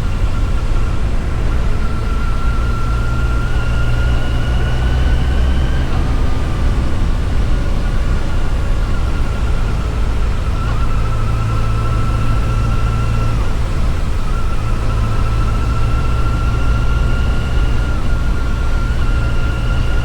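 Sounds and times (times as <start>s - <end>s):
motorcycle engine whine: 0.0s - 20.0s.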